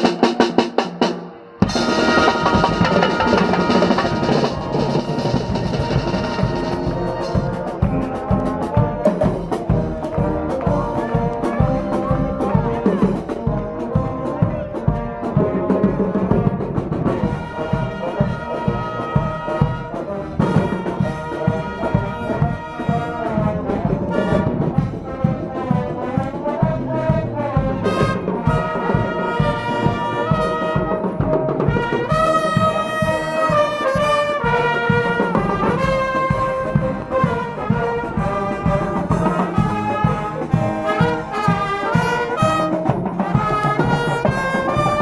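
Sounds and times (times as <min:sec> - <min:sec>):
steady drum beat: 0:00.0 - 0:45.0
trumpets and trombones: 0:00.0 - 0:45.0.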